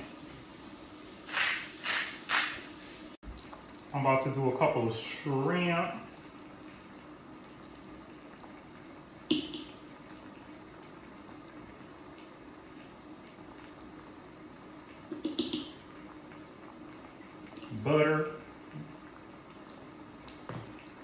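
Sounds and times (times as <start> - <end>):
broth simmering and bubbling: 0.0 - 21.0.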